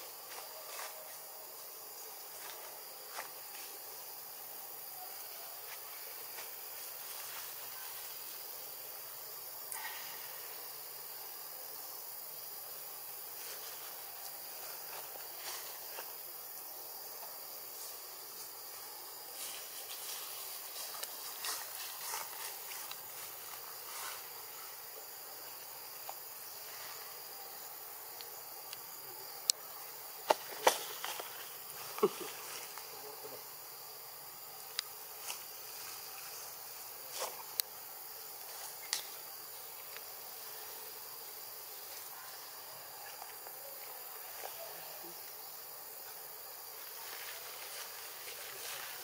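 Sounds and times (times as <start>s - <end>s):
insects buzzing: 0.0s - 49.0s.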